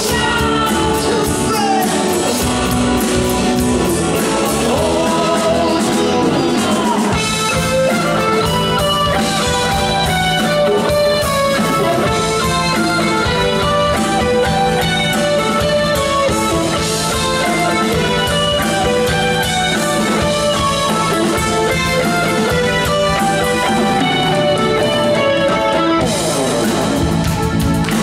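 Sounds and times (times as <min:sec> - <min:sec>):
drums: 0:00.0 - 0:28.0
electric guitar: 0:00.0 - 0:28.0
keyboard chords: 0:00.0 - 0:28.0.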